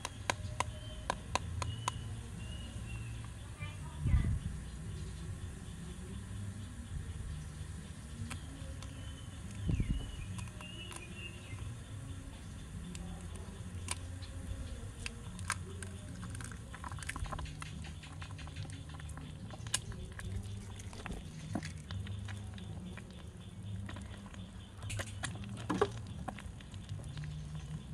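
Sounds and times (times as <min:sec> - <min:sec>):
hot oil crackling and popping: 0:00.0 - 0:03.6, 0:07.4 - 0:27.9.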